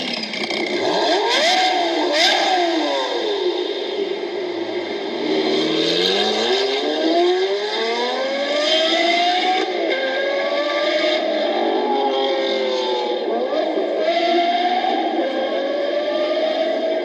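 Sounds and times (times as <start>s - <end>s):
car engine accelerating hard: 0.6s - 17.0s.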